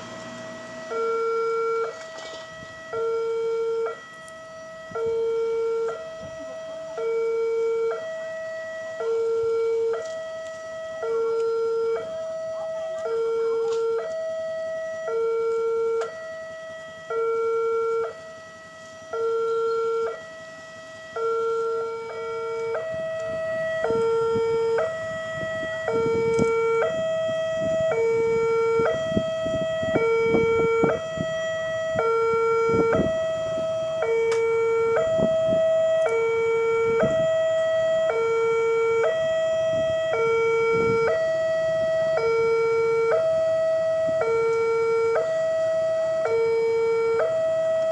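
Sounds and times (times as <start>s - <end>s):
two-tone level crossing alarm: 0.0s - 47.9s.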